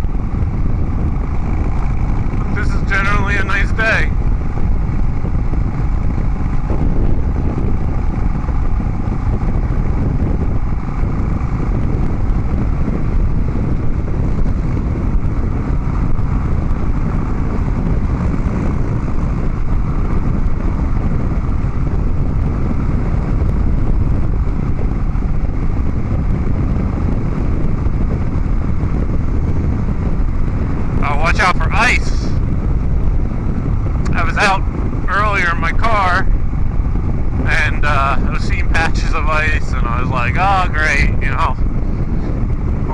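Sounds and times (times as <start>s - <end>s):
motorcycle engine riding: 0.0s - 42.9s.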